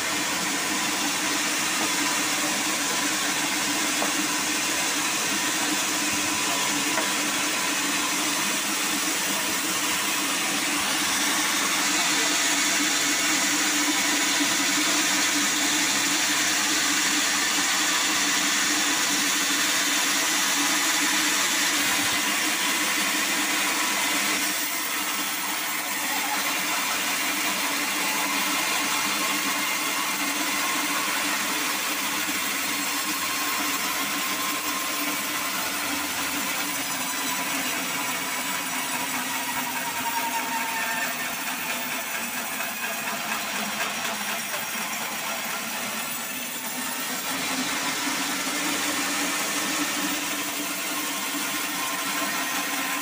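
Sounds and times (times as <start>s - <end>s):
band saw cutting log: 0.0s - 53.0s.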